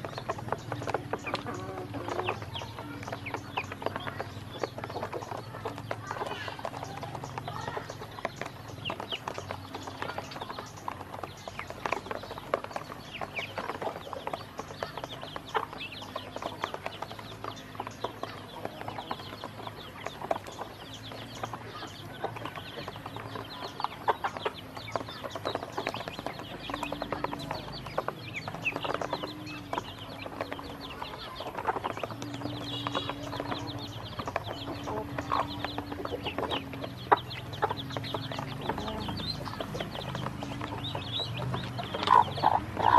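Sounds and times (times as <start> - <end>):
ducklings peeping: 0.0 - 42.9.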